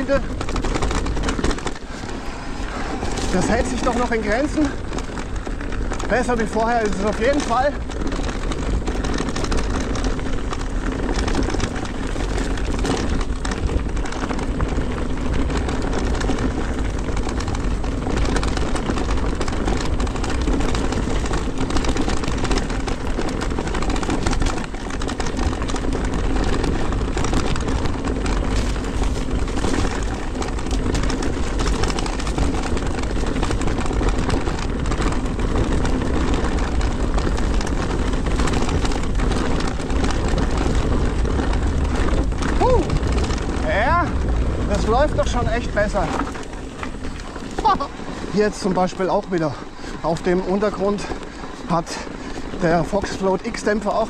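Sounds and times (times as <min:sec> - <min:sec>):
bike rattling over bumps: 0:00.0 - 0:54.0
tyre noise on trail: 0:00.0 - 0:54.0
wind: 0:00.0 - 0:54.0.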